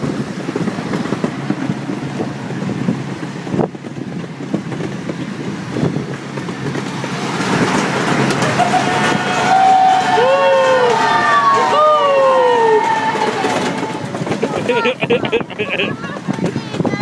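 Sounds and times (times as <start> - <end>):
ride train rumbling on track: 0.0 - 17.0
wheels clunking and clattering: 0.0 - 17.0
wind buffeting microphone: 0.0 - 17.0.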